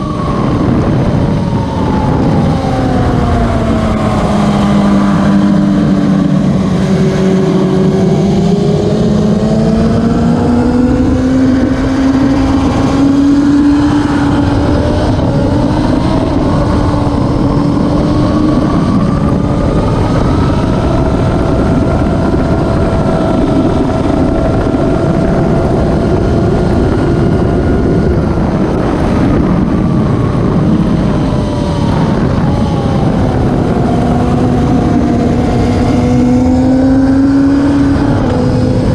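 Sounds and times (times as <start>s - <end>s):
racing motorcycle engines: 0.0s - 38.9s.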